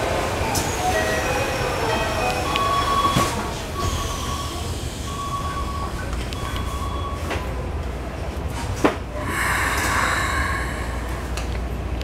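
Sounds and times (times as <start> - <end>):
train sliding doors closing: 0.0 - 12.0.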